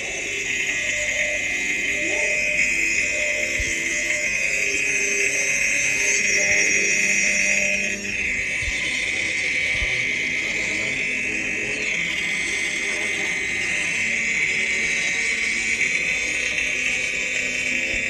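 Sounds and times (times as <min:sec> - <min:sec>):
high-pitched insect-like buzzing drone: 0:00.0 - 0:18.0.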